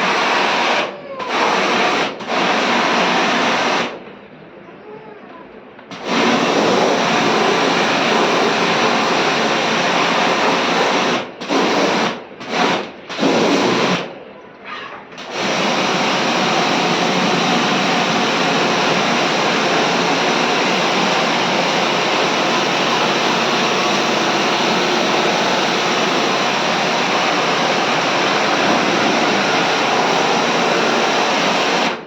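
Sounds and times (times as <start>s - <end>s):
water jet spraying: 0.0s - 4.0s, 5.9s - 14.1s, 15.2s - 32.0s.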